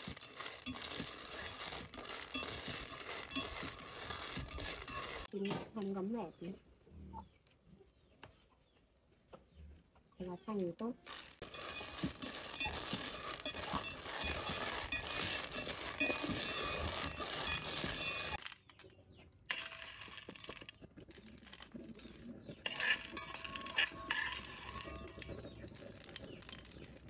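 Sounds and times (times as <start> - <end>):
shells clattering in metal pot: 0.0 - 5.3, 10.6 - 27.0.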